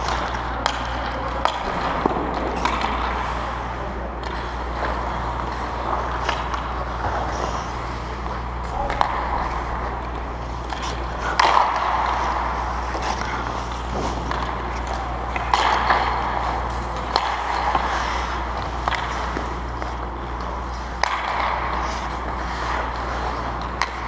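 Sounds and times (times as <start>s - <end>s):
sharp clicks of sticks and pucks: 0.0s - 24.0s
skates scraping on ice: 0.0s - 24.0s
steady low hum: 0.0s - 24.0s.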